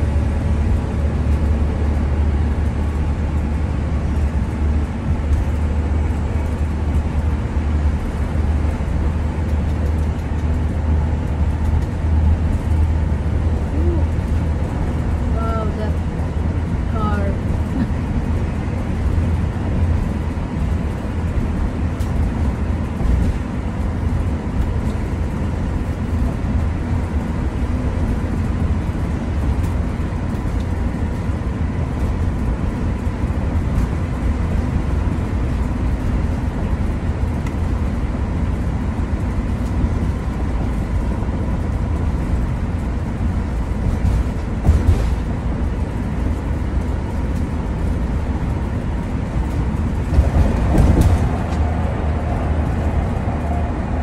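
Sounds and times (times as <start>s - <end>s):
tyre noise on wet pavement: 0.0s - 54.0s
vehicle engine drone in cab: 0.0s - 54.0s.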